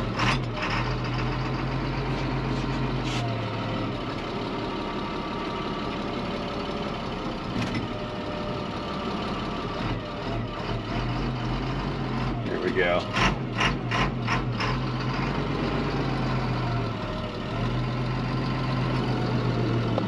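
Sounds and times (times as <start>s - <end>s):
truck engine running at low speed: 0.0s - 20.0s.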